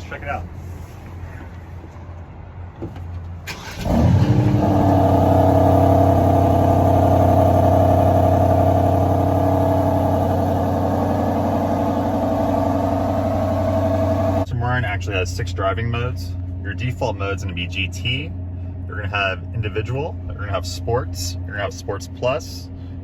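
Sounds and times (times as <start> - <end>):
car engine starting and idling: 2.7 - 23.0.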